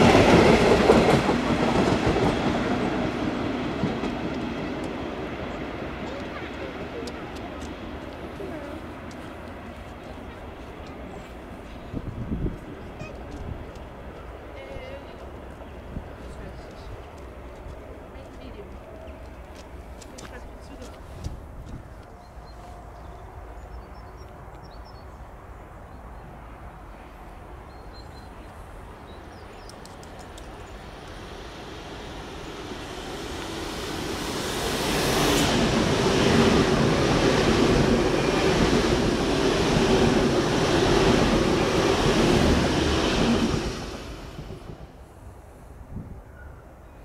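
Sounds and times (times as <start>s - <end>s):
train passing at speed: 0.0s - 47.0s.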